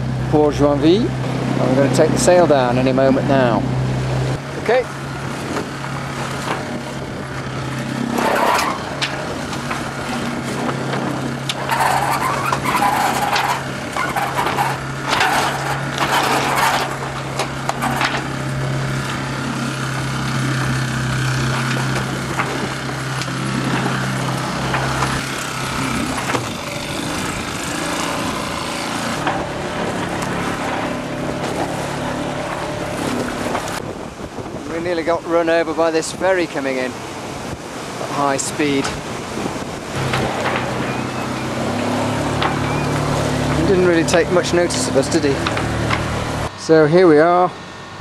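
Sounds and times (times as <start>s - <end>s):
boat motor running: 0.0s - 48.0s
sail rustling and flapping: 4.3s - 46.5s.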